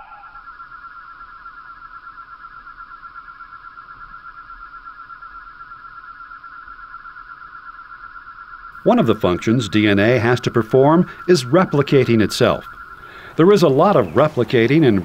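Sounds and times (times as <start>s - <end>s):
pulsing electronic tone: 0.0s - 15.0s.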